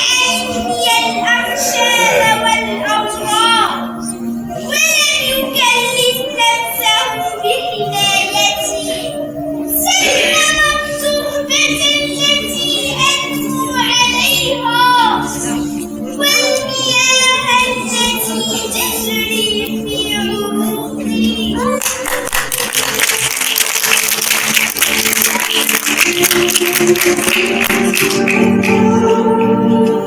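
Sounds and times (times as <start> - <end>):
children singing: 0.0 - 23.6, 25.1 - 30.0
musical accompaniment: 0.0 - 30.0.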